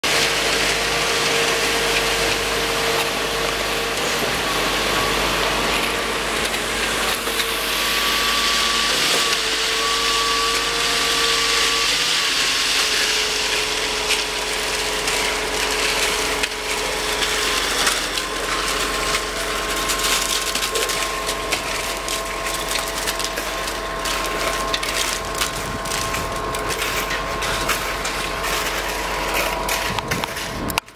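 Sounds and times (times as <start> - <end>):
concrete pump running: 0.0 - 30.9.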